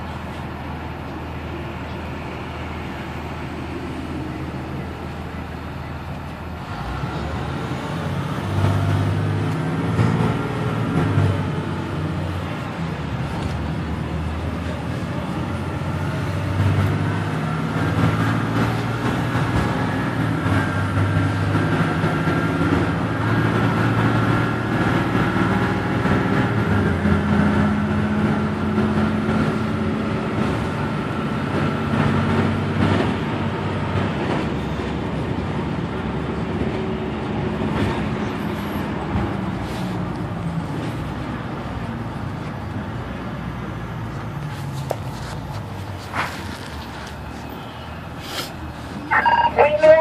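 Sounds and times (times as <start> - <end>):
diesel bus engine running: 0.0 - 50.0
steady road noise: 0.0 - 50.0.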